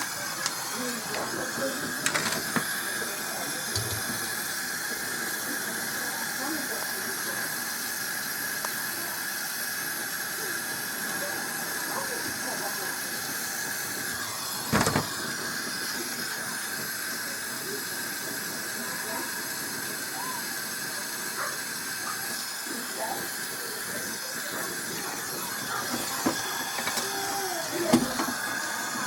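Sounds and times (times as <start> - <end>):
torch flame hissing: 0.0 - 29.0.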